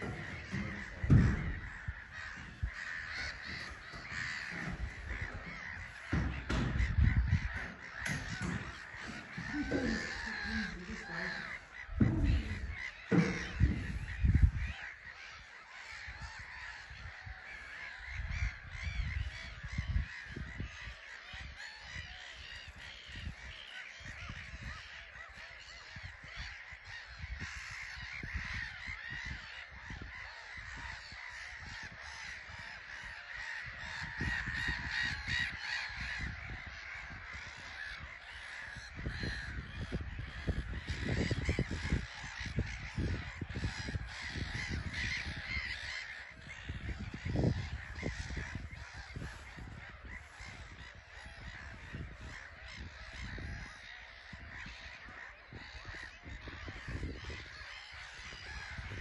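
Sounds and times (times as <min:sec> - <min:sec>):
gulls calling: 0:00.0 - 0:59.0.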